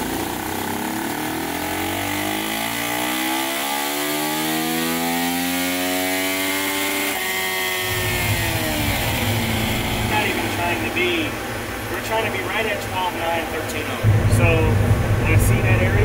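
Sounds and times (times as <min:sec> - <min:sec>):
motorcycle engine revving: 0:00.0 - 0:12.9, 0:14.0 - 0:16.0.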